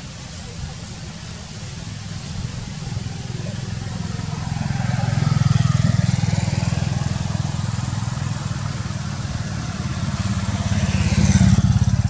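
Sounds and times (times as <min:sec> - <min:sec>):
vehicle engine running: 0:01.0 - 0:12.0.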